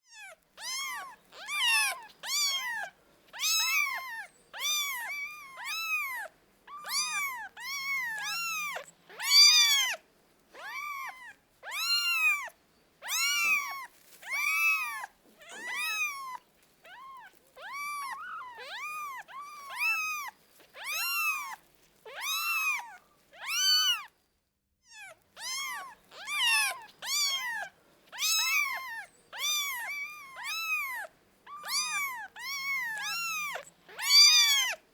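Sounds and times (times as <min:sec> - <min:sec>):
kittens meowing: 0:00.1 - 0:24.1, 0:24.9 - 0:34.8.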